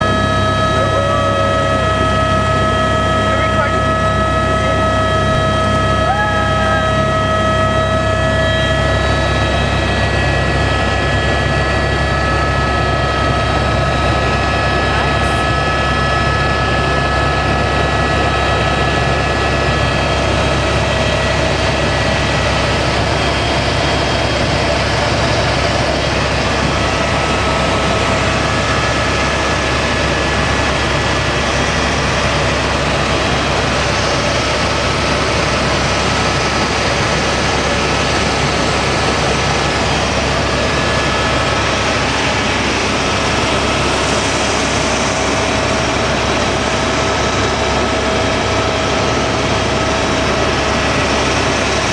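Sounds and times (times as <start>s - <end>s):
helicopter engine and rotor drone: 0.0s - 51.9s
high even whine: 0.0s - 51.9s.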